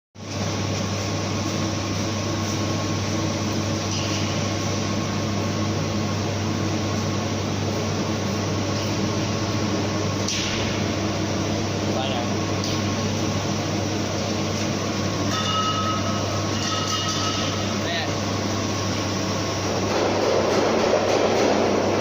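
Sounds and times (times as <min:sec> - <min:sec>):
low electrical hum: 0:00.2 - 0:22.0.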